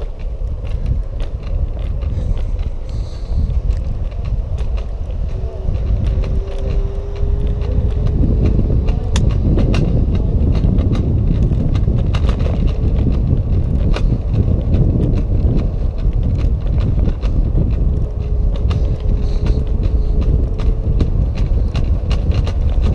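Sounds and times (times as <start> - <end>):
clicks and rattles: 0.0 - 22.9
wind rumble on microphone: 0.0 - 22.9.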